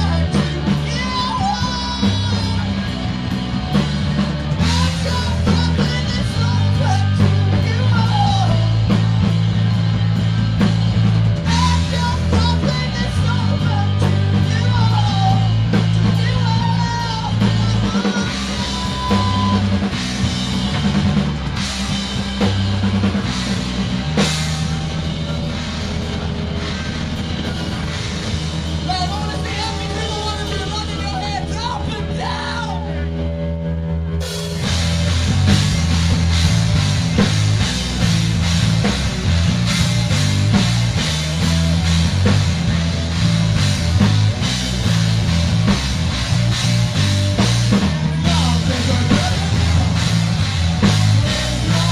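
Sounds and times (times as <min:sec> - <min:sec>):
drum kit: 0:00.0 - 0:51.9
electric guitar: 0:00.0 - 0:51.9.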